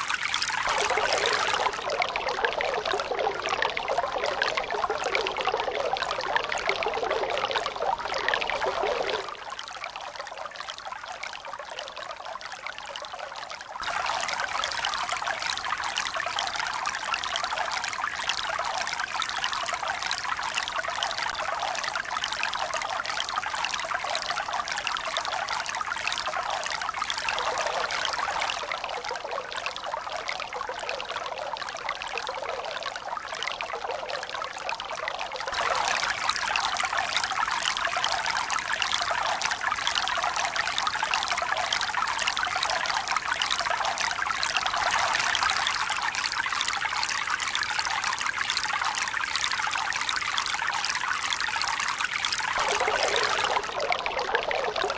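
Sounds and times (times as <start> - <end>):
water trickling and splashing: 0.0 - 54.9.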